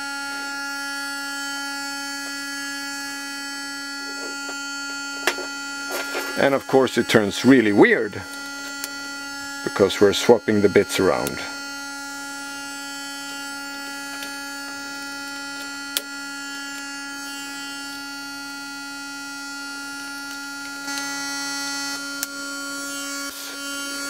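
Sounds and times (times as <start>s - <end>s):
buzzy synth tone with harsh overtones: 0.0s - 24.0s.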